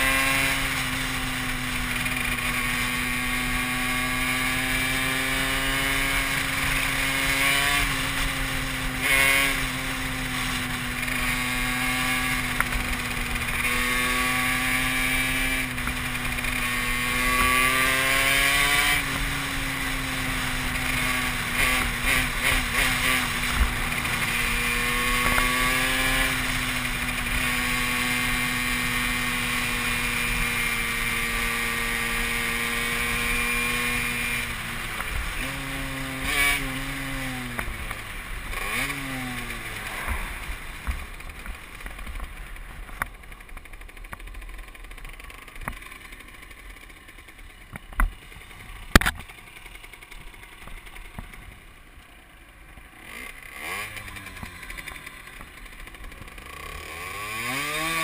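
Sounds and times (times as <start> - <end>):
moped engine: 0.0 - 58.0.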